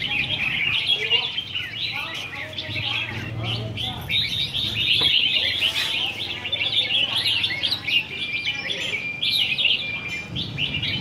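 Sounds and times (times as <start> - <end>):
birds warbling chorus: 0.0 - 11.0.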